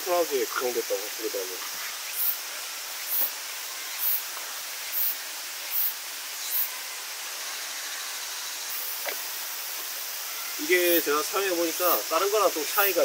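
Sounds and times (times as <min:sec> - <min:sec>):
outdoor hiss: 0:00.0 - 0:13.0.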